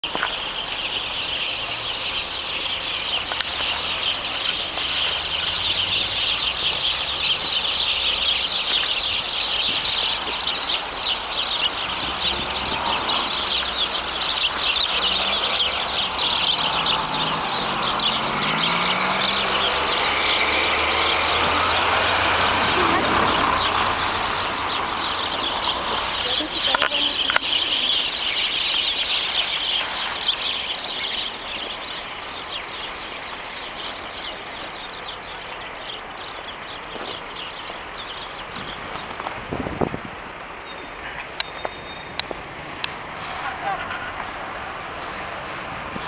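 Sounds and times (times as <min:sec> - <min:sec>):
sparrows chirping: 0:00.0 - 0:46.0.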